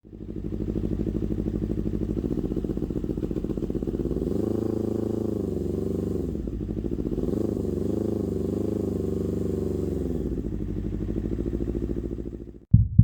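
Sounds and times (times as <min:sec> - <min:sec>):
motorcycle engine idling and revving: 0:00.0 - 0:12.7.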